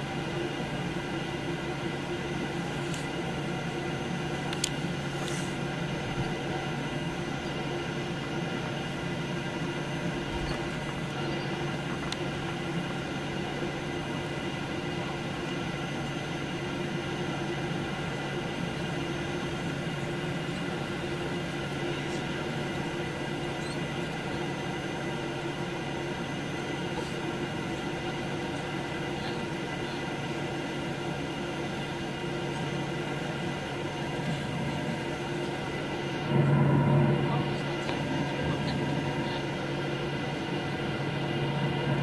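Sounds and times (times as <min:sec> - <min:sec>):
jet engines humming and whining: 0:00.0 - 0:42.0.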